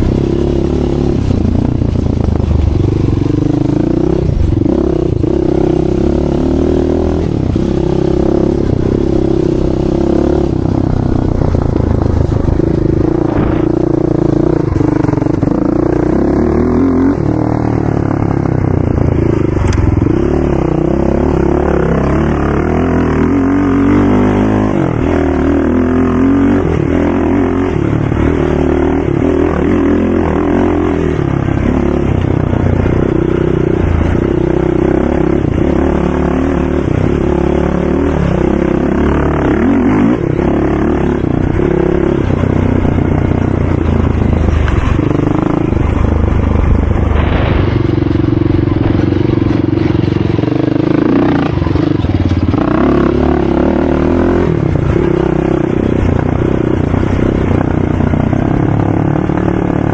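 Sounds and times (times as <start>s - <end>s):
racing engines revving: 0.0s - 59.9s.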